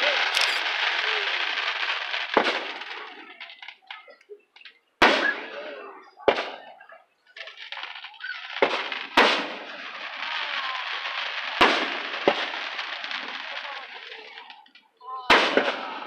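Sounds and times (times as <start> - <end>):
firework crackling: 0.0 - 5.4, 7.3 - 16.0.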